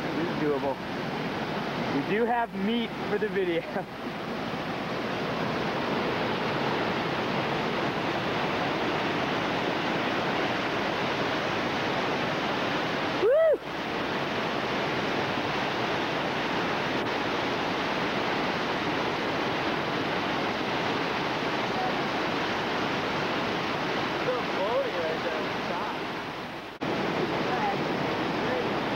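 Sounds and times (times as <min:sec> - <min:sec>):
rushing whitewater: 0:00.0 - 0:28.9.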